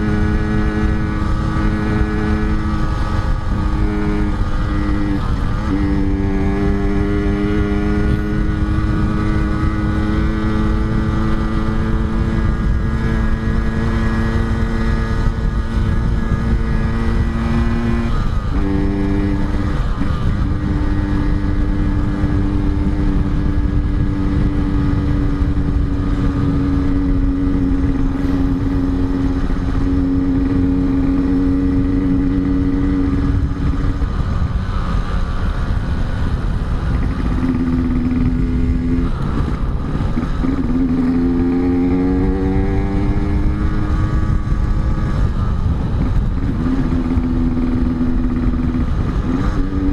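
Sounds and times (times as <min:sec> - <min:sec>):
low rush of noise: 0:00.0 - 0:49.9
two-stroke motorcycle engine running: 0:00.0 - 0:49.9.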